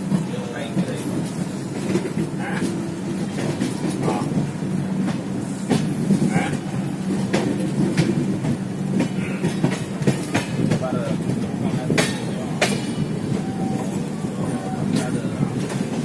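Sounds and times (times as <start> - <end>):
train rumbling through station: 0.0 - 16.0
wheels clicking over rail joints: 0.0 - 16.0.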